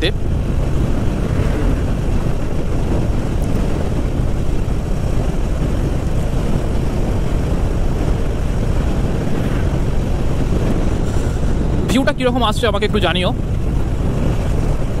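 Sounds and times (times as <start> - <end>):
motorcycle engine drone: 0.0 - 15.0
wind rush: 0.0 - 15.0.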